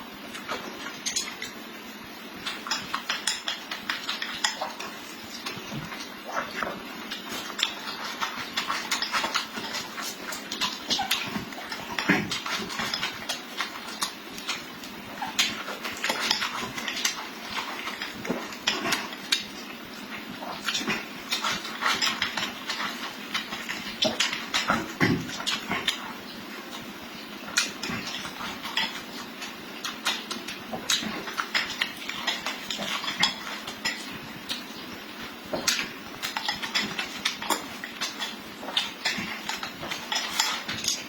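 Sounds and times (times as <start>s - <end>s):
wet chewing and smacking: 0.1s - 41.0s.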